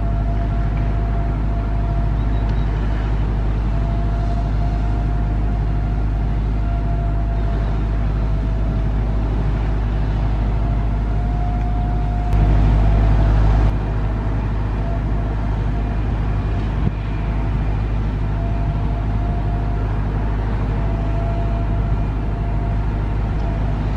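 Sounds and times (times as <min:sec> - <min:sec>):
jet airliner rumble: 0:00.0 - 0:23.9
jet engine whine: 0:00.0 - 0:23.9.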